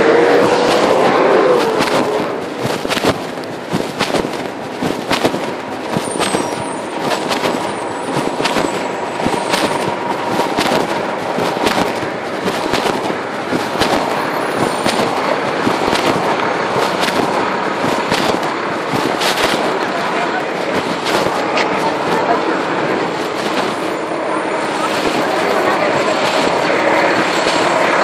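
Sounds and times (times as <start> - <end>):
fabric rubbing on microphone: 0.0 - 28.0
muffled street noise: 0.0 - 28.0.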